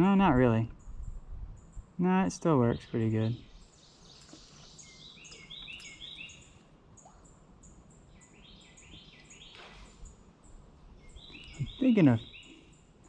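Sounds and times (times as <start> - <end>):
birds chirping: 0.0 - 13.0
faint outdoor background noise: 0.0 - 13.0.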